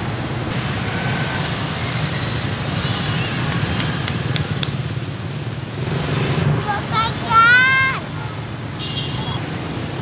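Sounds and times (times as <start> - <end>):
motorbikes and cars passing: 0.0 - 10.0.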